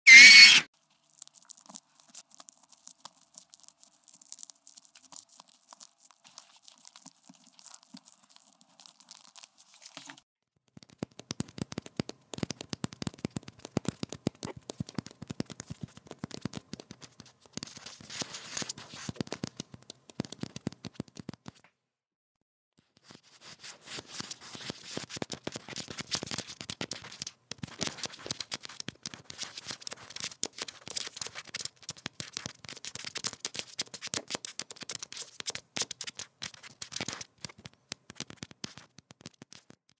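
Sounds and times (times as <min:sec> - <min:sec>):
rats running with claw scratches: 0:00.1 - 0:10.2, 0:10.8 - 0:21.6, 0:23.0 - 0:39.8.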